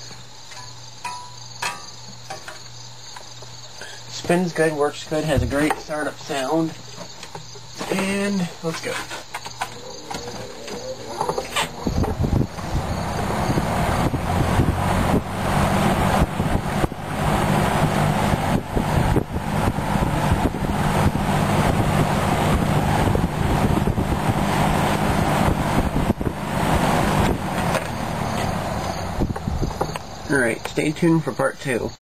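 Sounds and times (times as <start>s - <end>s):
box fan running: 0.0s - 31.2s.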